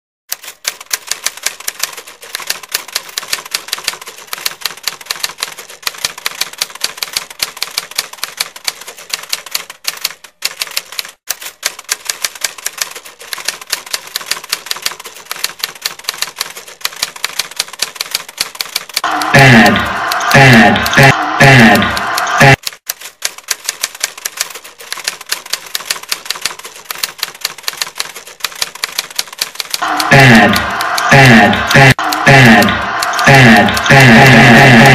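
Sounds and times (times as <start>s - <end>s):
rapid keyboard typing: 0.3s - 34.9s.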